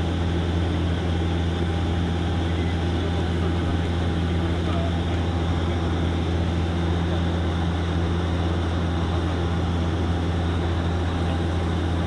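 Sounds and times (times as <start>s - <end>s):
turboprop cabin drone: 0.0s - 12.0s.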